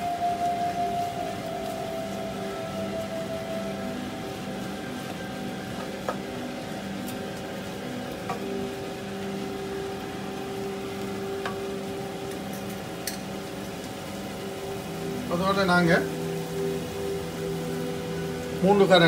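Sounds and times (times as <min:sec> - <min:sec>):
meat and onions sizzling in pan: 0:00.0 - 0:19.0.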